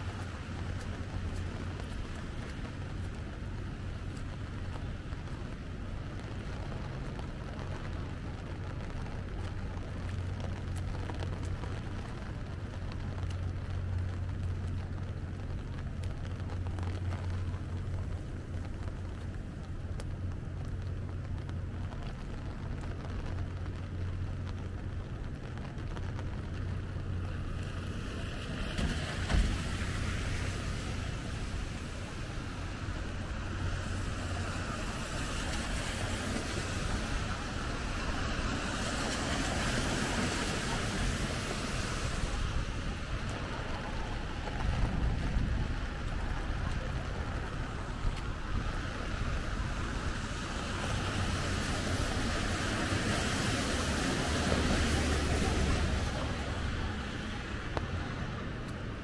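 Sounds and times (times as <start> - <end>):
low rumble of traffic: 0.0 - 59.0
tyres hissing on wet pavement: 0.0 - 59.0.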